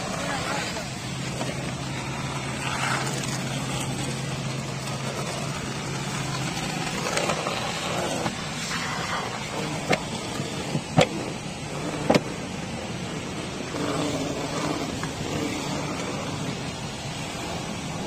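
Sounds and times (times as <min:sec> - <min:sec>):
low motor hum: 0:00.0 - 0:18.0
vacuum air rushing: 0:00.0 - 0:18.0.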